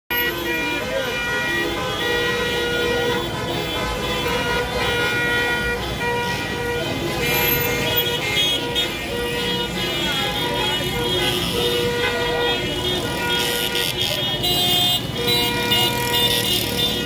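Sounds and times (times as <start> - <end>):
car horns honking: 0.1 - 17.0
crowd noise: 0.1 - 17.0.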